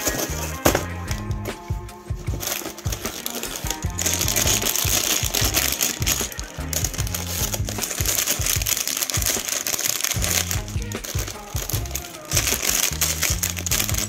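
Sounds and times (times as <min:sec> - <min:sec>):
plastic bags crinkling: 0:00.0 - 0:00.8, 0:02.3 - 0:14.0
background music with bass line: 0:00.0 - 0:14.0.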